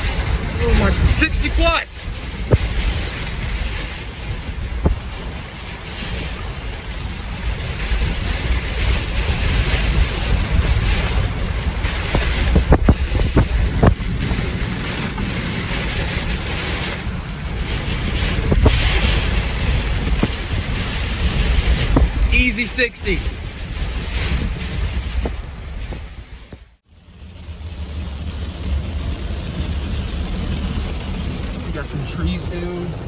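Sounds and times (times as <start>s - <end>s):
strong wind gusts buffeting microphone: 0.0s - 33.0s.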